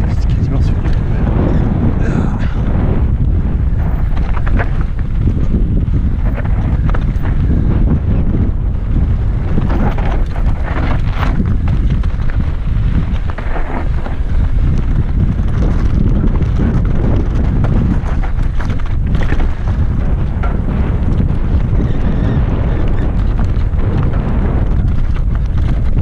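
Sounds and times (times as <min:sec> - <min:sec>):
bike rattling over rocky trail: 0:00.0 - 0:26.0
wind buffeting microphone: 0:00.0 - 0:26.0.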